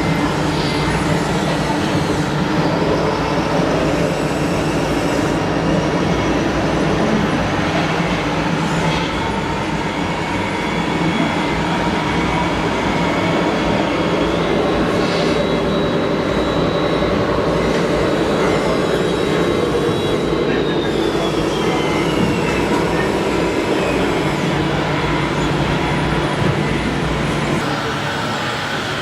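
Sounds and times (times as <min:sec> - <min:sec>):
small electric motors droning: 0:00.0 - 0:29.0.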